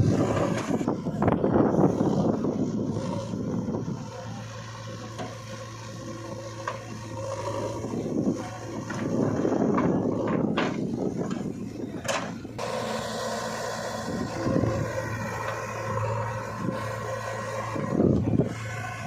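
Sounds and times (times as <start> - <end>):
heavy machinery diesel engine: 0.0 - 19.0.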